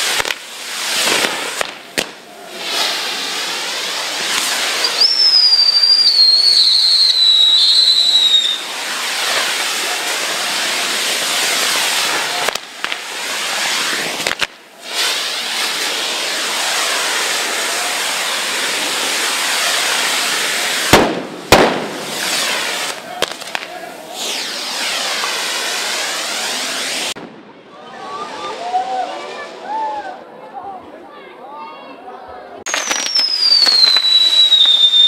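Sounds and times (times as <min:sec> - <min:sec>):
descending firework whistle: 0:00.0 - 0:27.3, 0:32.7 - 0:35.0
fireworks hissing and crackling: 0:00.0 - 0:27.4, 0:32.6 - 0:35.0.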